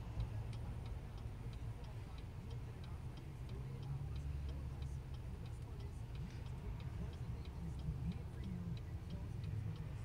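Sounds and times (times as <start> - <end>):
turn signal clicking: 0.0 - 10.0.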